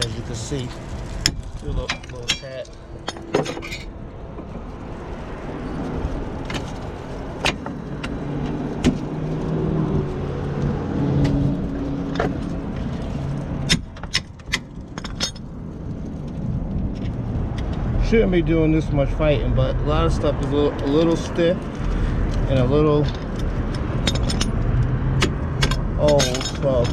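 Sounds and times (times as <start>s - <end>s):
vehicle humming: 0.0s - 26.9s.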